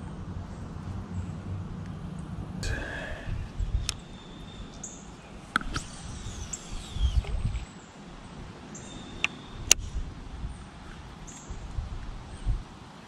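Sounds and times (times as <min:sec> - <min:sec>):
wind buffeting microphone: 0:00.0 - 0:08.6, 0:09.2 - 0:13.0.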